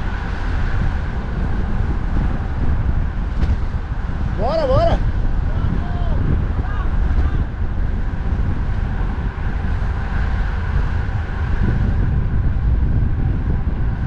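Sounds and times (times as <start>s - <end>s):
road traffic: 0.0s - 14.0s
wind rumble on microphone: 0.0s - 14.0s.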